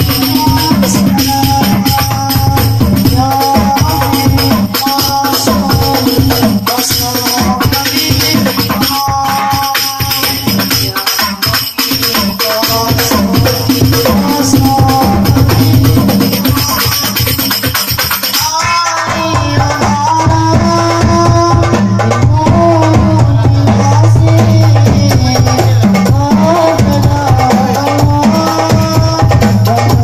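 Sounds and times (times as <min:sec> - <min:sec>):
person singing gliding phrases: 0:00.0 - 0:17.3, 0:18.4 - 0:30.0
frame drums struck by hand: 0:00.0 - 0:30.0.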